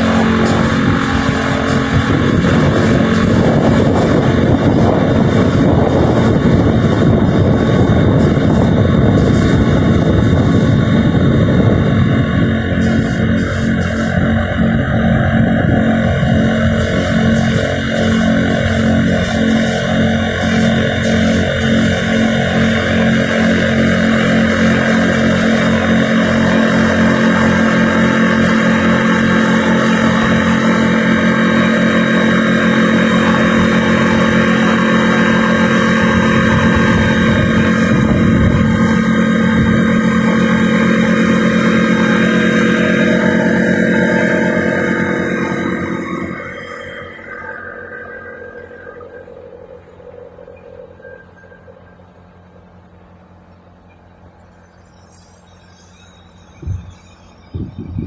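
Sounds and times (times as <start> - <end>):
engine running steadily: 0.0 - 58.0
low machine hum: 0.0 - 58.0.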